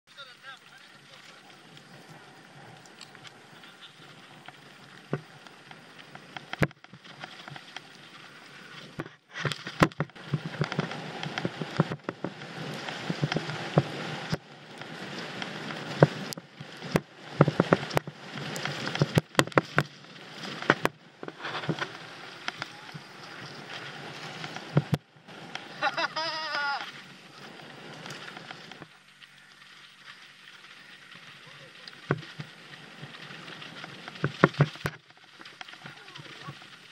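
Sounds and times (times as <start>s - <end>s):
bike tyres crunching over gravel: 0.1s - 36.9s
bike knocking and rattling: 1.6s - 36.9s.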